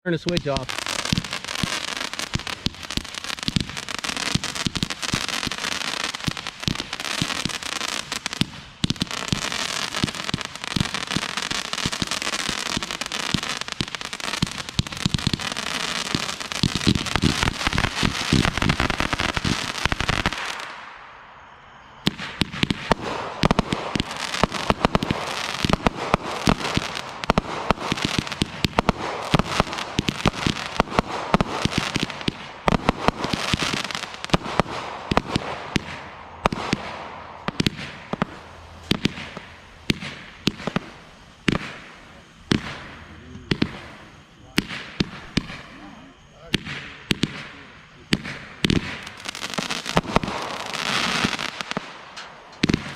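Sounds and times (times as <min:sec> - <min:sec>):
fireworks crackling and popping: 0:00.0 - 0:52.9.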